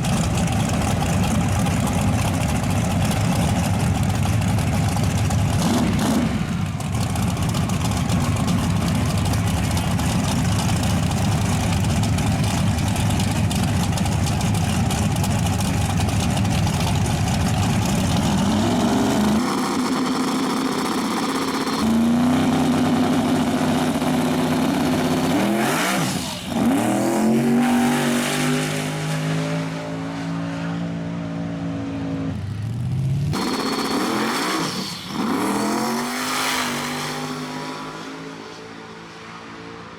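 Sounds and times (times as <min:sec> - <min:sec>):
drag race car engine: 0:00.0 - 0:39.9.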